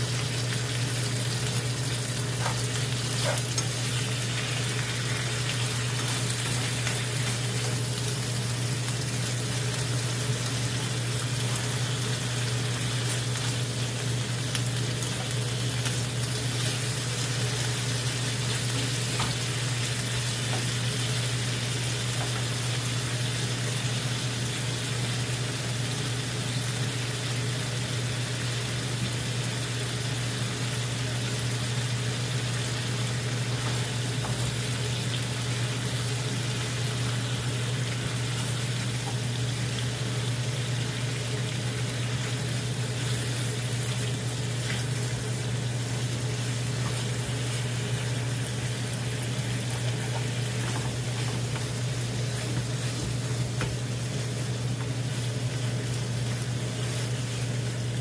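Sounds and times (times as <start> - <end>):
meat sizzling in a frying pan: 0.0 - 58.0.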